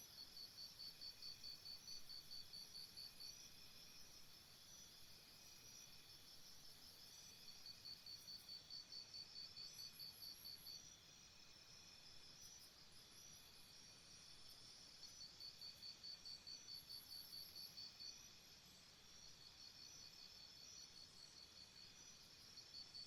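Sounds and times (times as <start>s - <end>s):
low background hiss: 0.0s - 23.0s
insects chirping: 0.3s - 23.0s.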